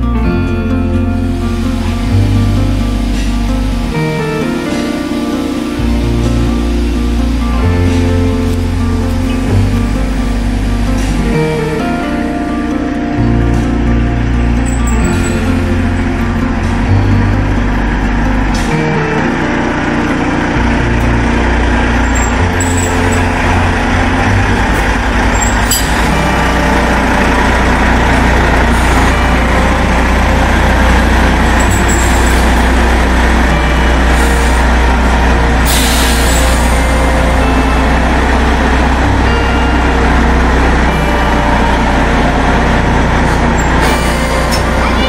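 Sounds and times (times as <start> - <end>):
diesel locomotive engine rumbling: 0.0 - 45.0.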